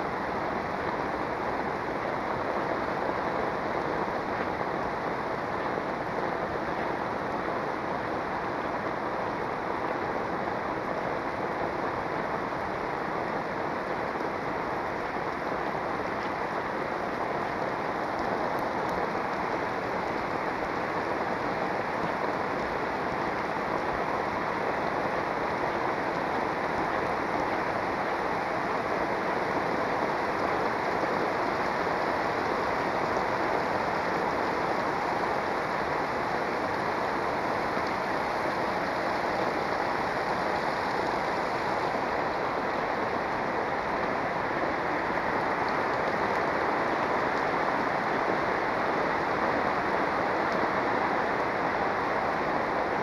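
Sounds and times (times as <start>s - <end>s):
heavy rain on street and roofs: 0.0s - 53.0s.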